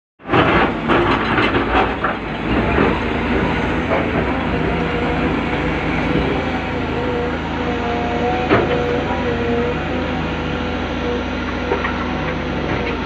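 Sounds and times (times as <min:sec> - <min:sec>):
excavator diesel engine: 0:00.2 - 0:13.0.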